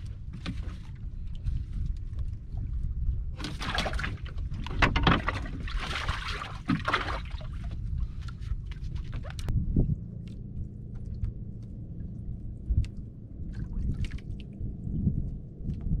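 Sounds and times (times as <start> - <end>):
water sloshing against boat: 0.0 - 15.8
low rumble: 0.0 - 16.0.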